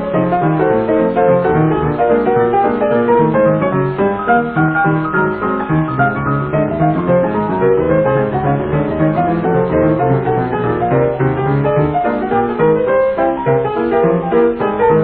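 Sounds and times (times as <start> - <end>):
instrumental piano music: 0.0 - 15.0.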